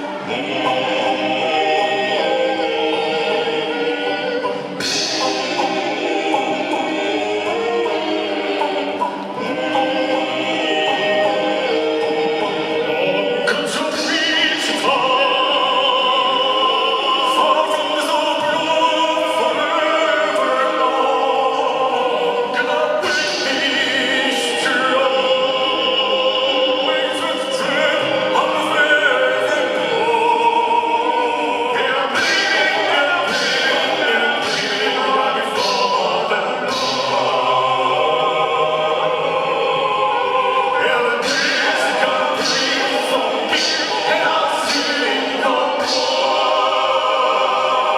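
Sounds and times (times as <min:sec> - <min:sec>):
music with choir-like singing: 0:00.0 - 0:47.9.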